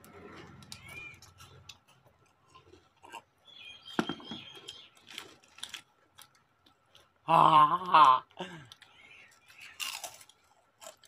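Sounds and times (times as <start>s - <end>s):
people chewing crisps: 0.0s - 11.0s.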